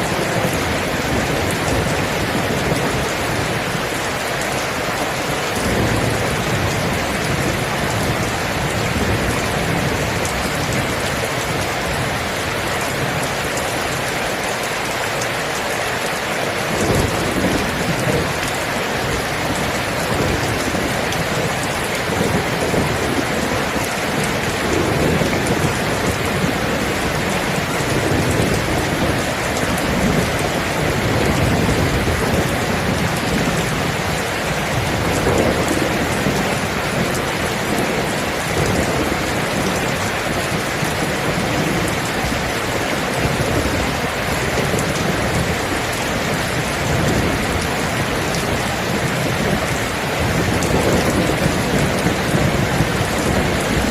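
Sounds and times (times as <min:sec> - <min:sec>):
dense rainfall: 0:00.0 - 0:53.9
low thunder rumbles: 0:00.1 - 0:14.2, 0:16.1 - 0:53.9.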